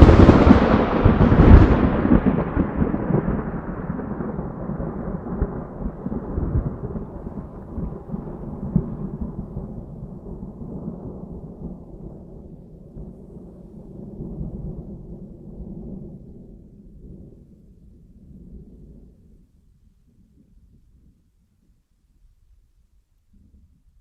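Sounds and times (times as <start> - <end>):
thunder crack and rumble: 0.0 - 19.5.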